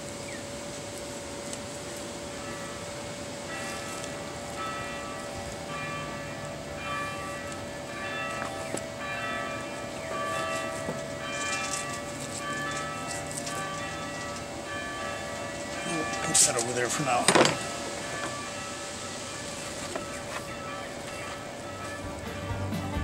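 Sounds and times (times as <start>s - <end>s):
church bells ringing: 1.2s - 23.0s.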